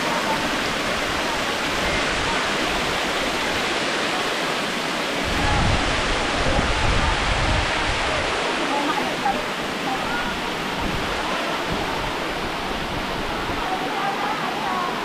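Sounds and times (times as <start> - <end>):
waterfall pouring: 0.0 - 15.0.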